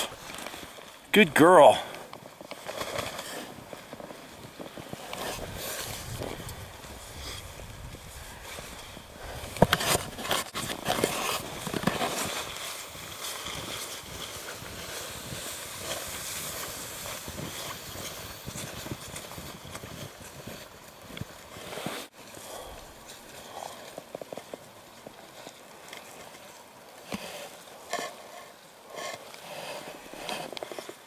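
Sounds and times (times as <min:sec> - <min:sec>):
footsteps crunching through snow: 0:02.2 - 0:31.0.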